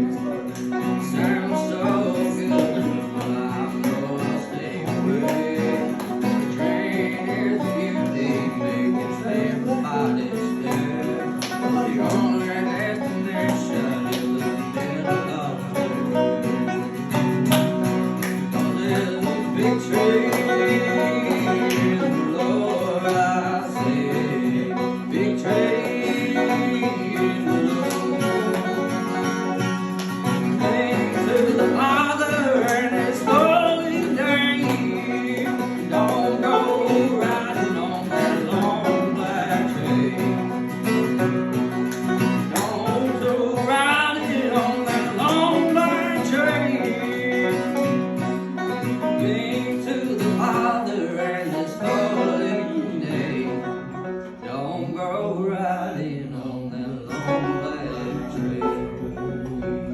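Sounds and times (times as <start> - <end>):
man singing gospel song: 0.0 - 16.8, 18.4 - 29.5, 30.3 - 59.9
guitar accompaniment: 0.0 - 59.9.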